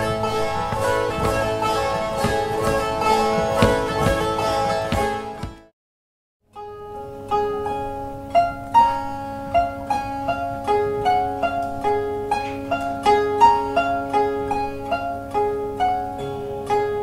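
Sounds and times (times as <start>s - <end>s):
drone zither strummed: 0.0s - 5.4s, 6.5s - 17.0s.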